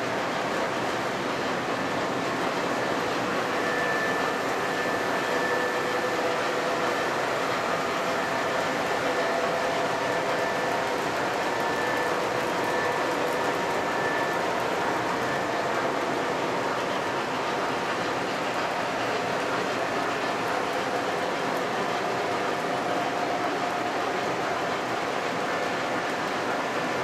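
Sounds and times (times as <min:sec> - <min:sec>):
faint motor whine: 0:00.0 - 0:27.0.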